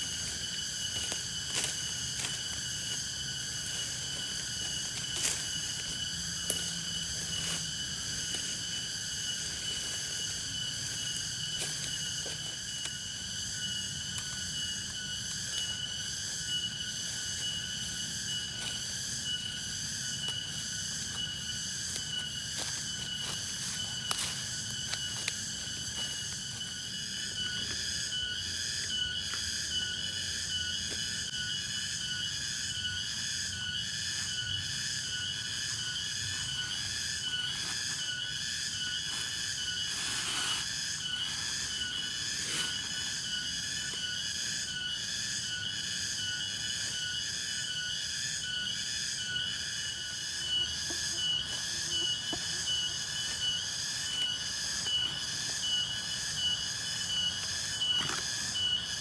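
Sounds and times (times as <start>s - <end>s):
insects shrilling: 0.0s - 59.0s.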